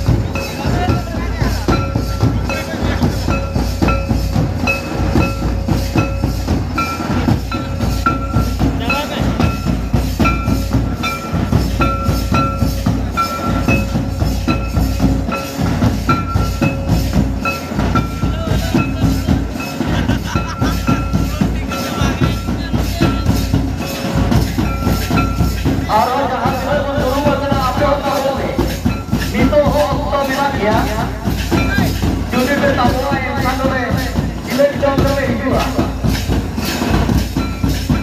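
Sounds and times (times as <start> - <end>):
kettle drum and barrel drums: 0.0 - 38.0.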